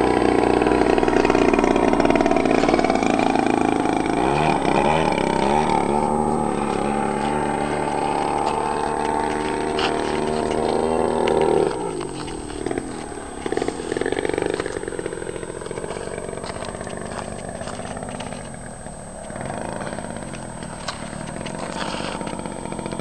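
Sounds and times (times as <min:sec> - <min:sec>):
two-stroke engine running: 0:00.0 - 0:23.0.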